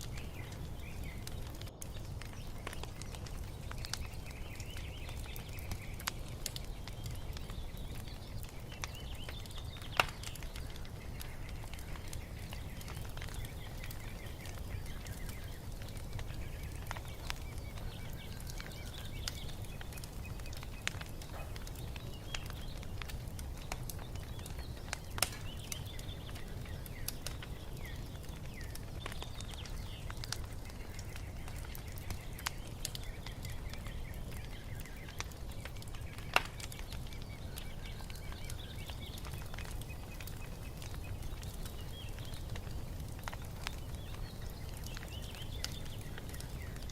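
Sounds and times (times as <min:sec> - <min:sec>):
small birds chirping: 0:00.0 - 0:46.9
wood fire crackling: 0:00.0 - 0:46.9.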